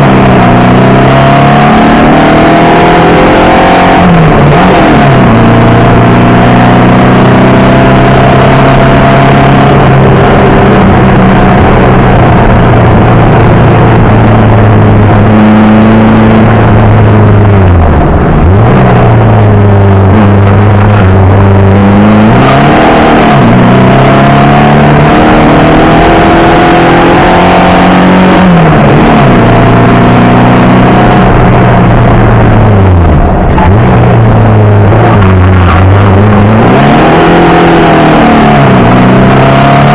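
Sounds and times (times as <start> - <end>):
car engine accelerating at high revs: 0.0 - 39.9.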